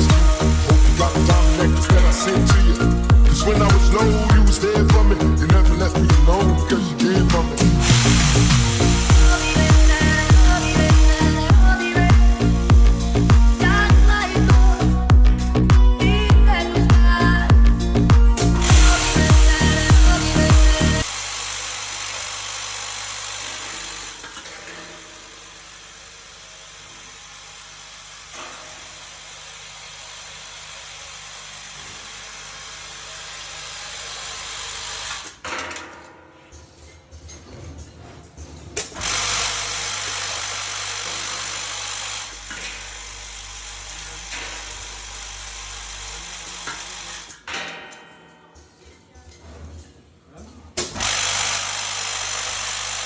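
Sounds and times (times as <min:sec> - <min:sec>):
packaging machine whirring hiss: 0:00.0 - 0:15.0, 0:18.4 - 0:35.4, 0:38.8 - 0:47.4, 0:50.8 - 0:53.0.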